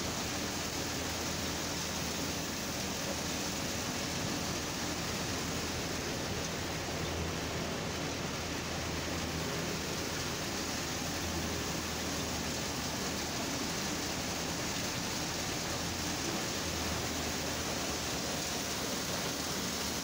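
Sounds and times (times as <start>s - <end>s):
tractor engine hum: 0.0s - 20.0s.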